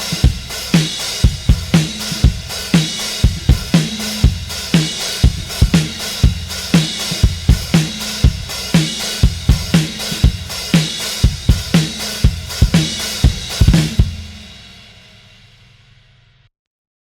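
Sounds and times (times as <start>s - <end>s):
cymbals ringing out: 0.0s - 15.4s
drum kit playing a groove: 0.0s - 15.5s.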